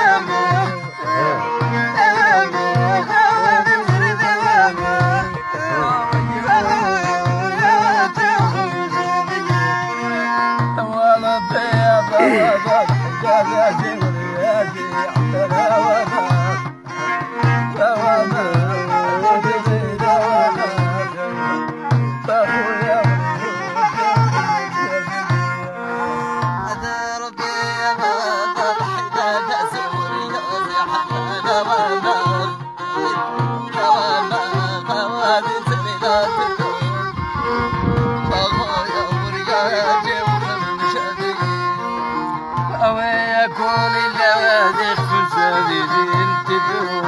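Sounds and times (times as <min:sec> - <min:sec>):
frame drum beats: 0:00.0 - 0:43.0
bowed violin melody: 0:00.0 - 0:47.0
man singing: 0:00.0 - 0:47.0
plucked lute: 0:00.0 - 0:47.0.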